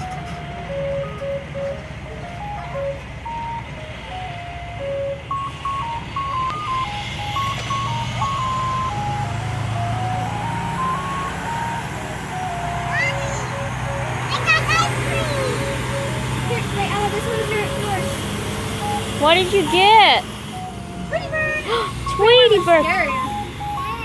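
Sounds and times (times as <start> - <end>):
ice cream truck chiming jingle: 0.0 - 24.0.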